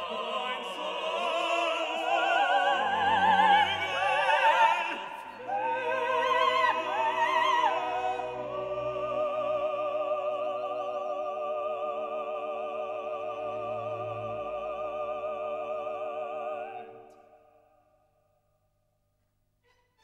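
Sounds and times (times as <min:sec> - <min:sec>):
operatic singing with orchestra: 0:00.0 - 0:17.5.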